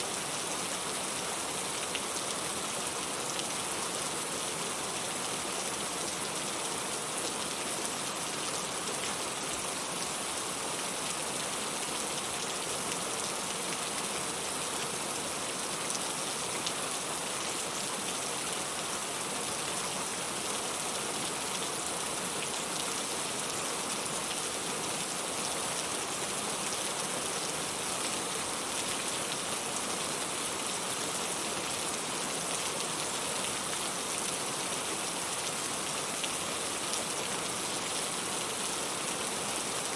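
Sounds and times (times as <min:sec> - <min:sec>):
rain falling: 0:00.1 - 0:39.9.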